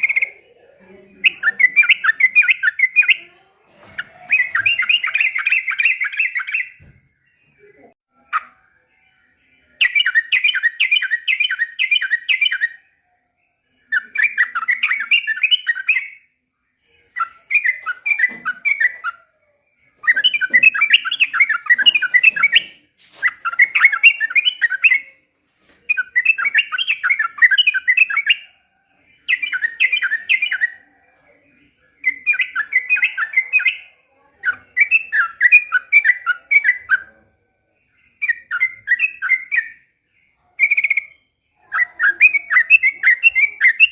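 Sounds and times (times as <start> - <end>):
bulbul chattering song: 0.0 - 12.9, 13.9 - 25.2, 25.9 - 37.4, 38.1 - 43.9.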